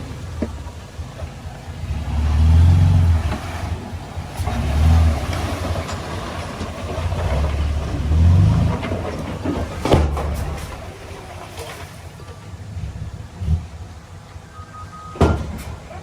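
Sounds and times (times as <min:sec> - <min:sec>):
diesel engine revving under load: 0:00.0 - 0:16.0.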